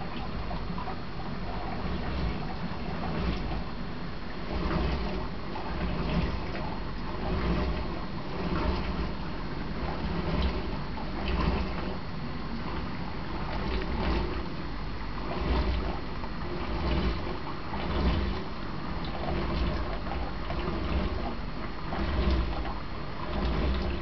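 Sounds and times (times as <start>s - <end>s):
aquarium pump water circulation: 0.0s - 24.0s.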